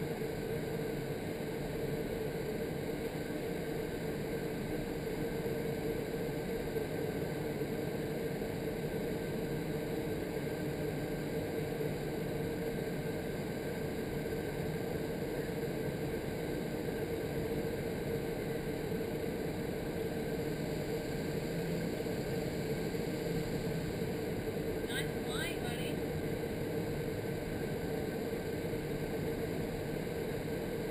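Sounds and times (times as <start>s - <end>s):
rushing fan-driven air: 0.0s - 30.9s
steady hum: 0.0s - 30.9s.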